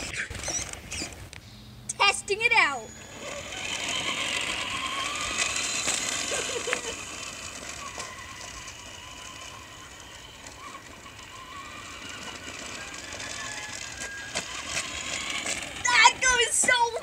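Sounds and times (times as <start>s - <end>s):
toy truck electric motor whine: 0.0s - 1.3s, 2.8s - 17.0s.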